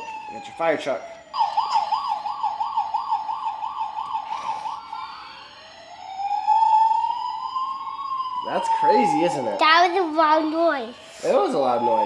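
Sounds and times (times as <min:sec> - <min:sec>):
higher-pitched toy siren: 0:00.0 - 0:12.0
toy electronic siren: 0:00.0 - 0:12.0.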